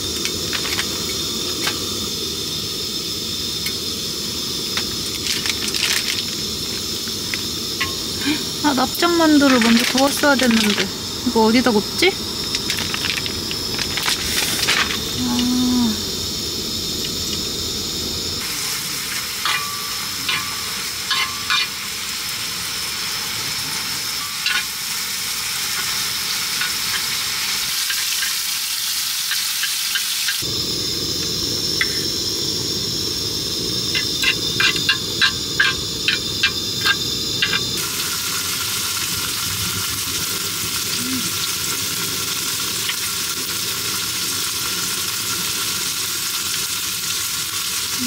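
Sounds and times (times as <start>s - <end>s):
food sizzling in a frying pan: 0.0s - 48.0s.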